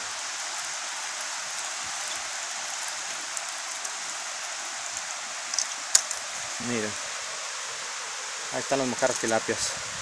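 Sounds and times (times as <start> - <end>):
water cascade hissing: 0.0 - 10.0.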